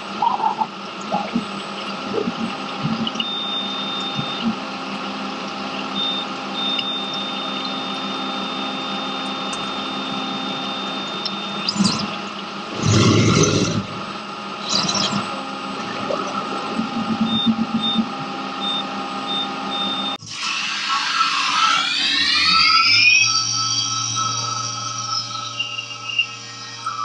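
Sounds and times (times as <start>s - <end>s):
spraying coolant and machine noise: 0.0s - 27.0s.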